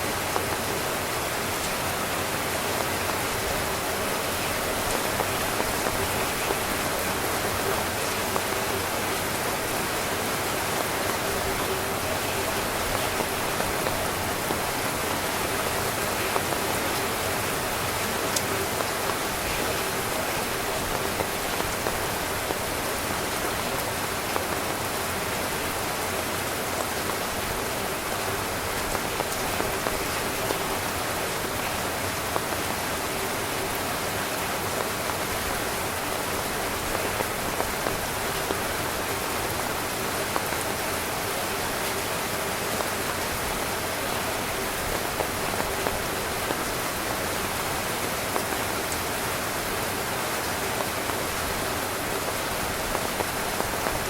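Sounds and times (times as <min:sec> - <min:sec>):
rain on a tent: 0:00.0 - 0:54.0.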